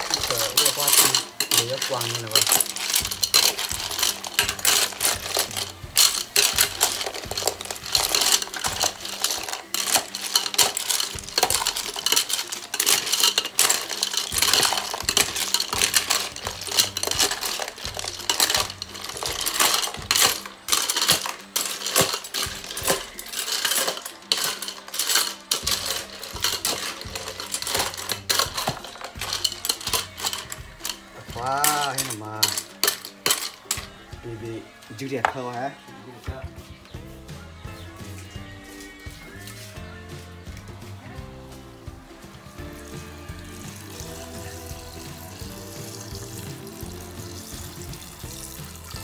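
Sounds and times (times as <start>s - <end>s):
snail shells clinking on metal pot: 0.0s - 35.7s, 42.8s - 49.0s.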